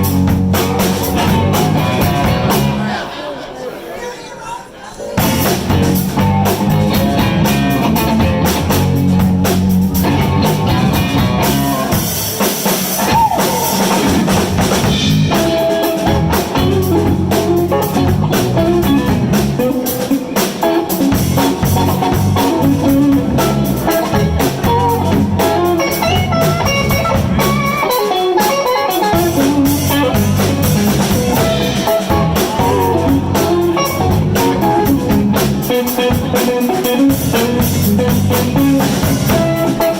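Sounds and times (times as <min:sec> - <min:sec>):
electric guitar: 0:00.0 - 0:02.8, 0:05.2 - 0:39.9
drum kit: 0:00.0 - 0:03.0, 0:05.2 - 0:39.9
live blues band playing: 0:00.0 - 0:03.1, 0:05.2 - 0:39.9.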